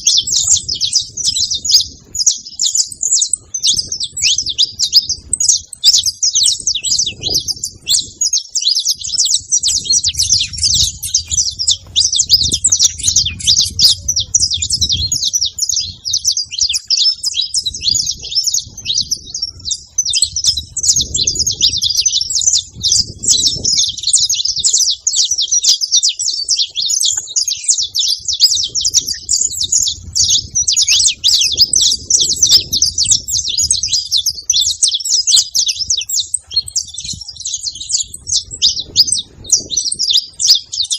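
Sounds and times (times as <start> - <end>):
finches chirping and singing: 0.0 - 40.9.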